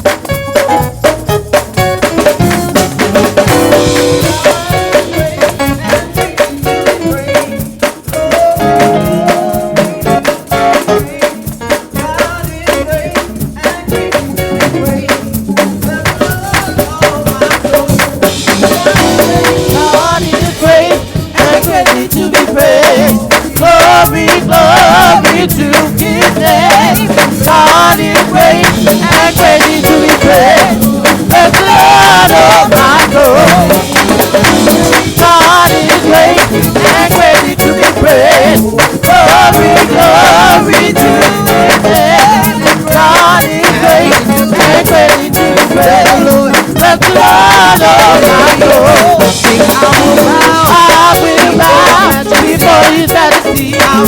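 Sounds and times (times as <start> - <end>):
drum kit groove: 0.0 - 54.0
gospel band playing: 0.0 - 54.0
person singing runs: 4.2 - 54.0.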